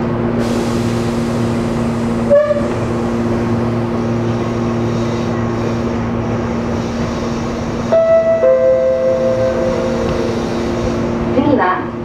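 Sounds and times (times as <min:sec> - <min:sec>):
train cab running hum: 0:00.0 - 0:12.0.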